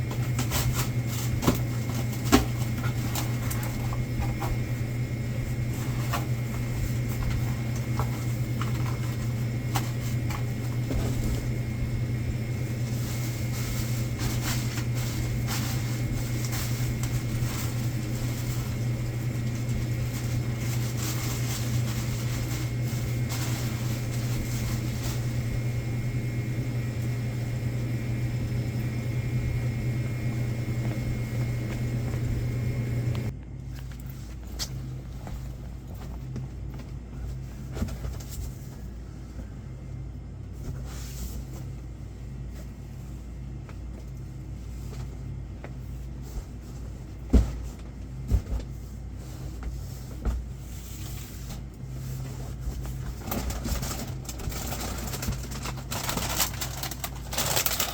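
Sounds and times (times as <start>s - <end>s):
low machine hum: 0.0s - 57.9s.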